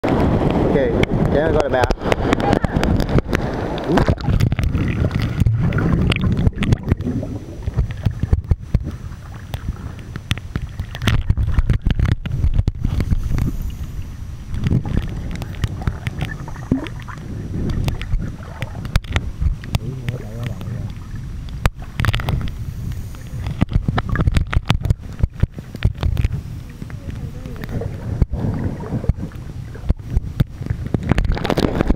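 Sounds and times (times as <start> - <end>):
low rumble of moving water: 0.0 - 31.9.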